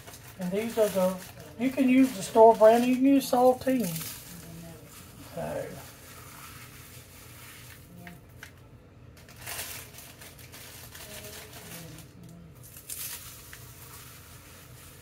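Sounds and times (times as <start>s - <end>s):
crackers crunching and crinkling: 0.0s - 15.0s.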